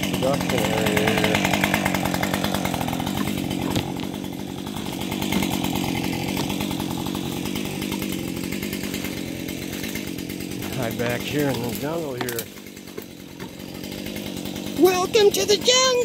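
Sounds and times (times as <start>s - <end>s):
chainsaw engine idling: 0.0s - 16.0s.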